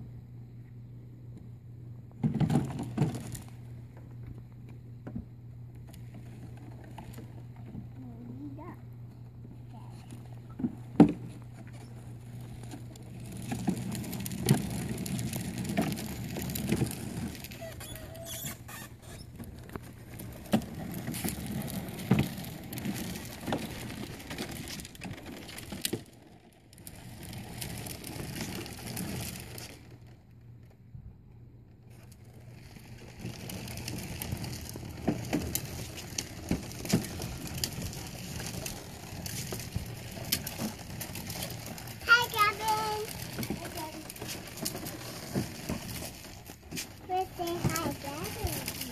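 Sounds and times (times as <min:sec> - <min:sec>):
plastic toy wheels rattling on concrete: 0:02.2 - 0:04.2, 0:09.4 - 0:30.8, 0:31.7 - 0:48.9.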